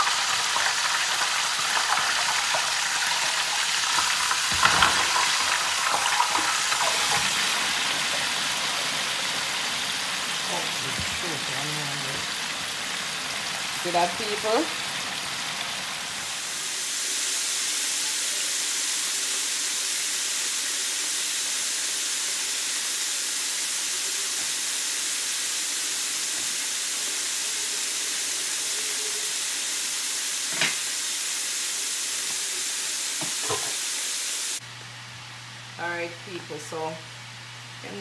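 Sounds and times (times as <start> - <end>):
oil bubbling and sizzling: 0.0 - 35.8.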